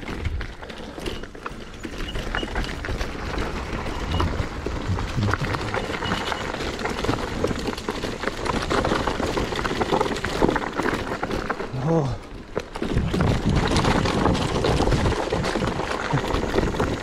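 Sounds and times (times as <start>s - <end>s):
scooter knocking and rattling: 0.0s - 17.0s
tyres rolling over dirt and leaves: 0.0s - 17.0s.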